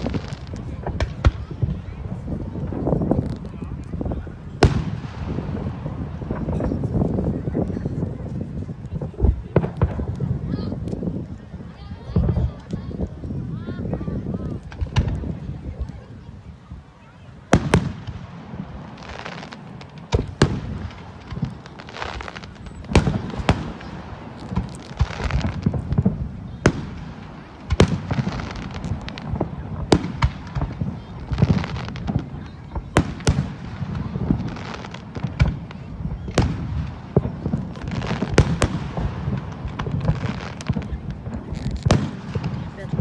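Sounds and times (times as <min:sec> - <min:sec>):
fireworks bursting with sharp bangs: 0:00.0 - 0:43.0.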